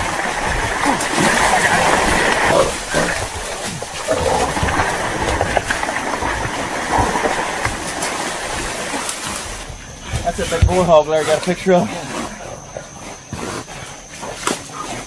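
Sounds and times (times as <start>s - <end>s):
water splashing: 0.0s - 12.3s
dogs and boar scuffling: 0.0s - 15.0s.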